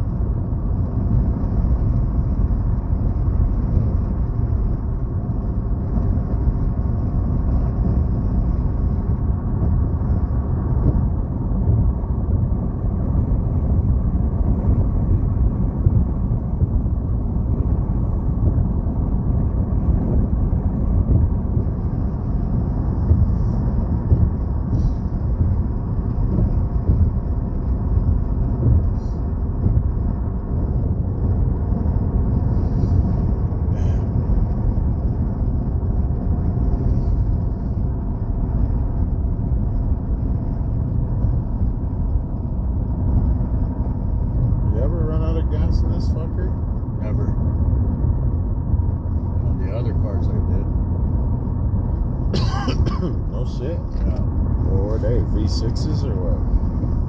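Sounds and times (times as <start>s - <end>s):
tyres rumbling on rough pavement: 0.0s - 57.0s
wind noise inside moving car: 0.0s - 57.0s.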